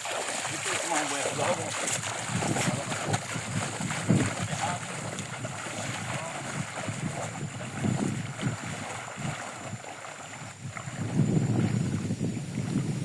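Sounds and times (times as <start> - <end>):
water splashing and sloshing: 0.0 - 13.0
wind rumbling on microphone: 0.0 - 13.0.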